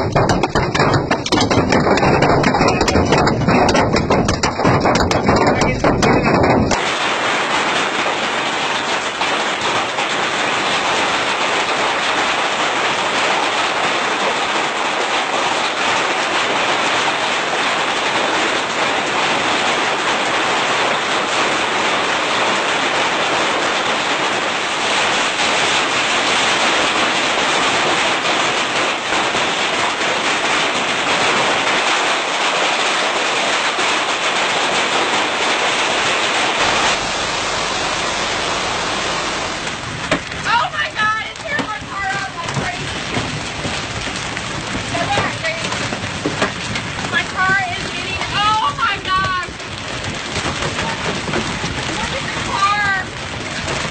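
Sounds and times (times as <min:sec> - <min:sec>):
rain falling steadily: 0:00.0 - 0:53.9.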